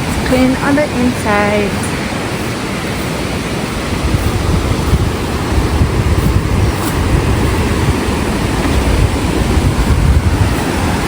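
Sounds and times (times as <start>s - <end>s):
river rushing: 0.0s - 11.0s
wind buffeting microphone: 0.0s - 11.0s.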